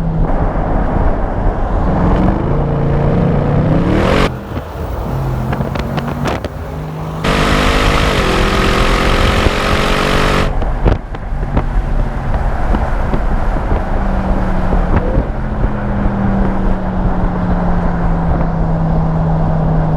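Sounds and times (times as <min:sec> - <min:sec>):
exhaust cracks: 0:00.0 - 0:17.5
car exhaust revving and droning: 0:00.0 - 0:19.9.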